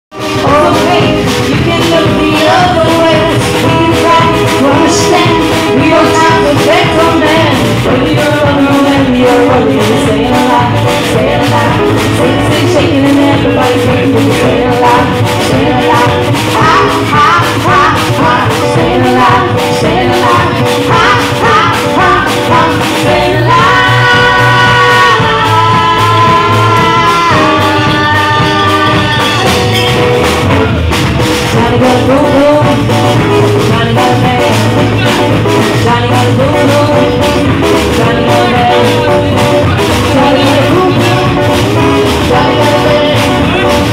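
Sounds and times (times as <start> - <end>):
drum kit: 0.1 - 43.9
electric guitar: 0.1 - 43.9
person singing: 0.2 - 43.9.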